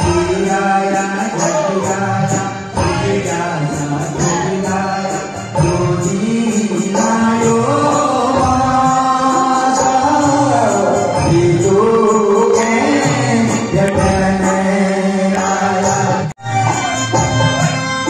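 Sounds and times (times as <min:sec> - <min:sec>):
man singing into microphone: 0:00.0 - 0:17.1
drums: 0:00.0 - 0:18.0
keyboard: 0:00.0 - 0:18.0.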